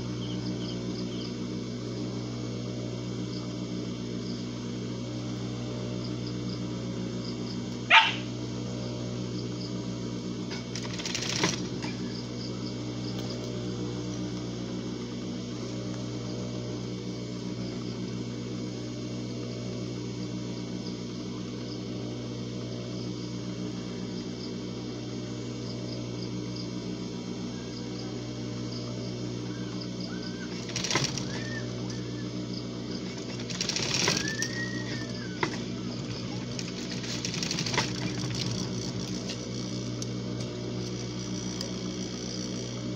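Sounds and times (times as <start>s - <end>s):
sewing machine motor hum: 0.0s - 42.9s.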